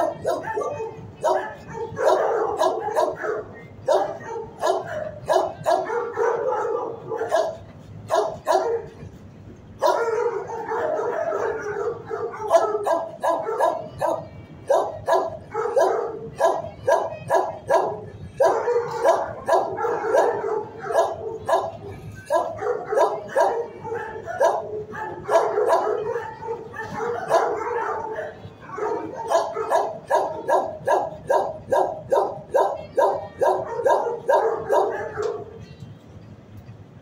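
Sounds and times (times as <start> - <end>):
dogs barking: 0.0 - 9.1, 9.8 - 35.7.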